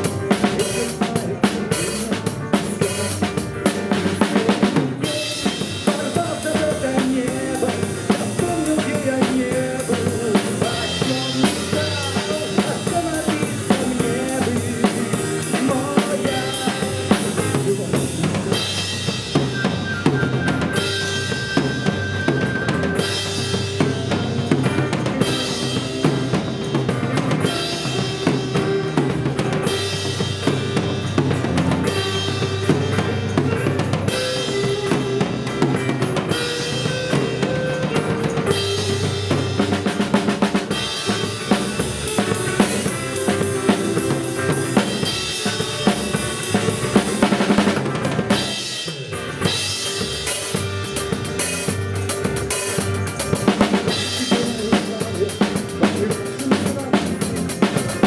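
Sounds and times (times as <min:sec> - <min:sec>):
drum kit playing a beat: 0:00.0 - 0:58.0
pop-rock backing track: 0:00.0 - 0:58.0.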